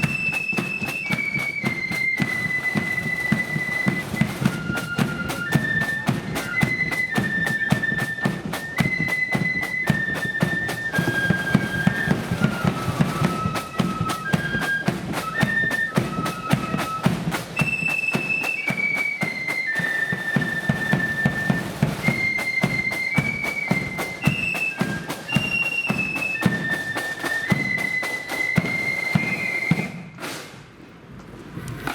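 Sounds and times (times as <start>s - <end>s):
flutes playing melody: 0.0s - 30.2s
rapid snare drumming: 0.0s - 30.8s.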